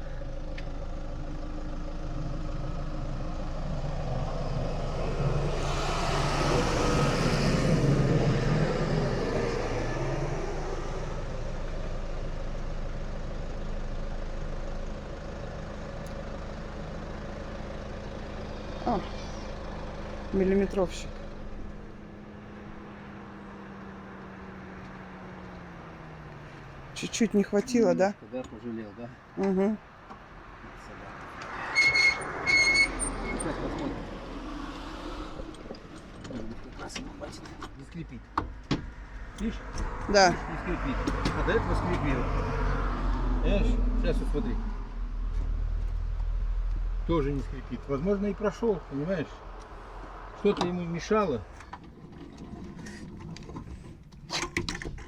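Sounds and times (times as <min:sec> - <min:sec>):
vehicle engine running: 0:00.0 - 0:31.4, 0:33.0 - 0:54.2.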